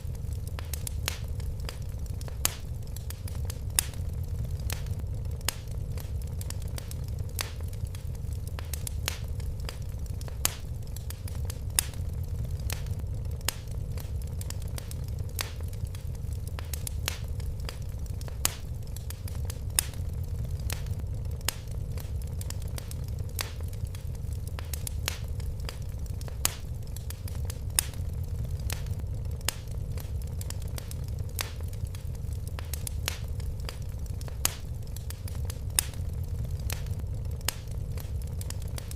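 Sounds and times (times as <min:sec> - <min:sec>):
fire popping and snapping: 0:00.0 - 0:38.9
low rumble of flames: 0:00.0 - 0:38.9.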